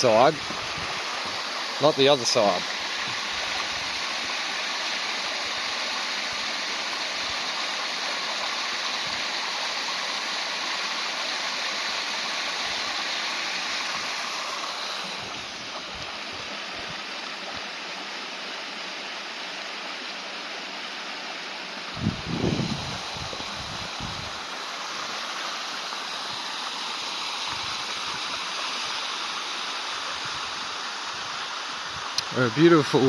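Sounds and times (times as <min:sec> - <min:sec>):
stream water rushing over stones: 0:00.0 - 0:33.0.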